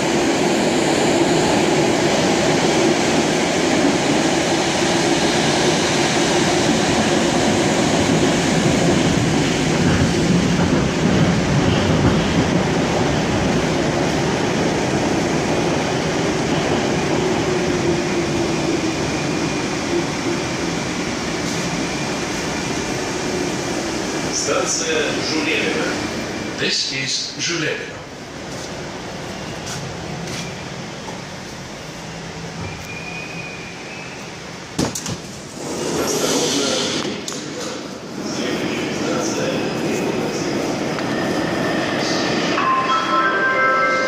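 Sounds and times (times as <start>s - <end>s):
train wheels rumbling on rails: 0.0s - 42.6s.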